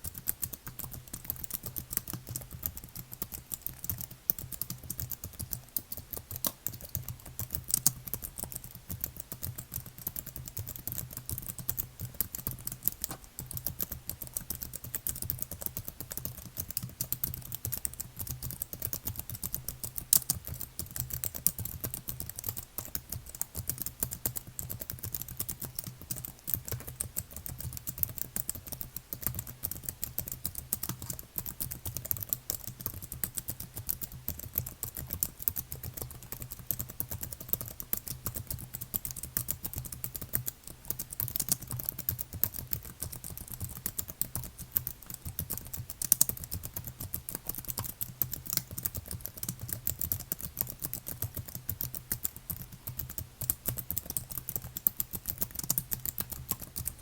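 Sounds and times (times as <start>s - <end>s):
fast typing on computer keyboard: 0.0s - 57.0s.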